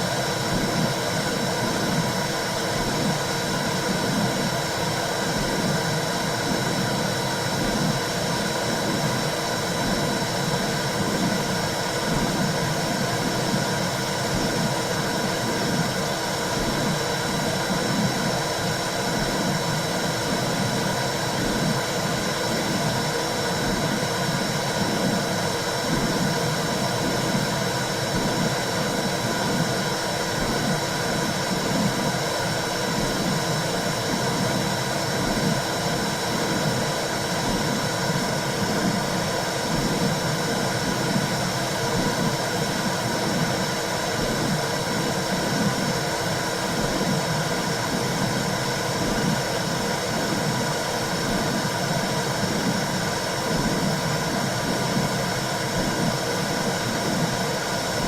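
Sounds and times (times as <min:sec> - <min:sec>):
low rhythmic pulsing: 0:00.0 - 0:58.0.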